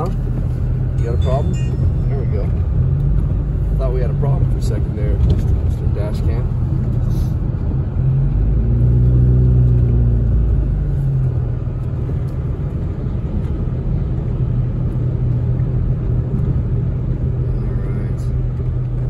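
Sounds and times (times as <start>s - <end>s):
deeper engine hum: 0.0s - 19.0s
tyres and engine rumble: 0.0s - 19.0s.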